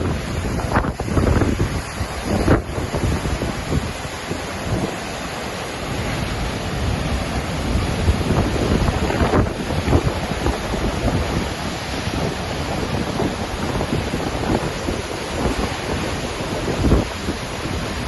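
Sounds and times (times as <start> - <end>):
waterfall rushing: 0.0 - 18.0
wind buffeting microphone: 0.0 - 18.0.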